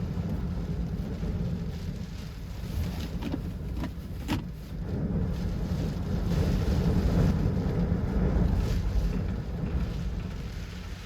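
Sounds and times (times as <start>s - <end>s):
wind gusts buffeting truck: 0.0s - 11.0s.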